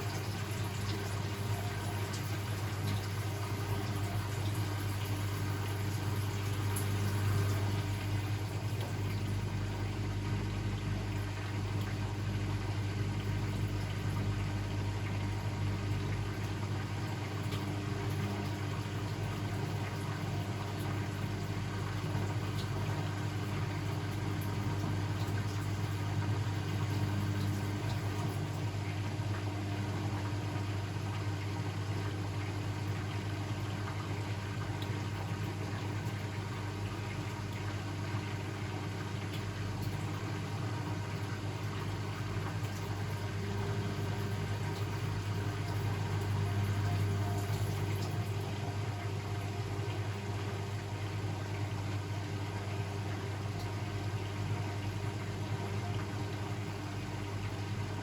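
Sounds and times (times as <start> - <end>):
washing machine humming: 0.0 - 58.0
water noise: 0.0 - 58.0.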